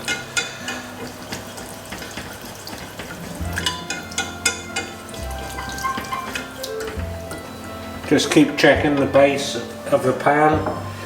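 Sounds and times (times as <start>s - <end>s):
utensil scraping a pan: 0.0s - 11.0s.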